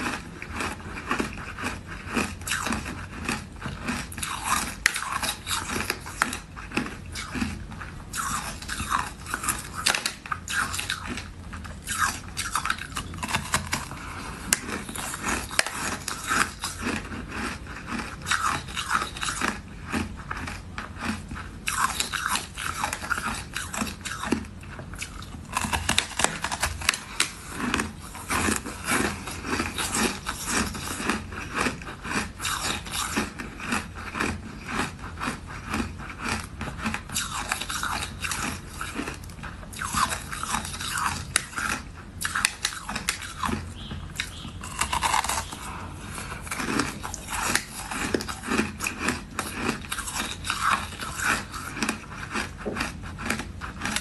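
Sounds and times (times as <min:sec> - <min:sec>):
person crunching ice: 0:00.0 - 0:24.4, 0:25.0 - 0:54.0.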